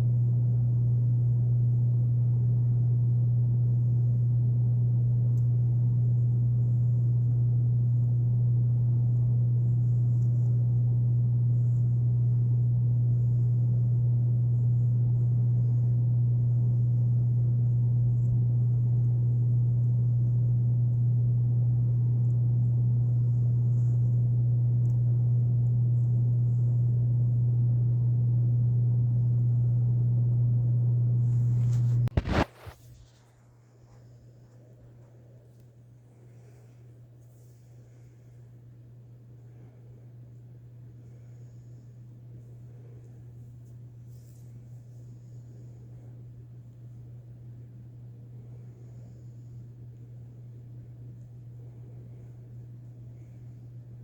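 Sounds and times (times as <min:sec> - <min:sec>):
air conditioner humming: 0:00.0 - 0:54.0.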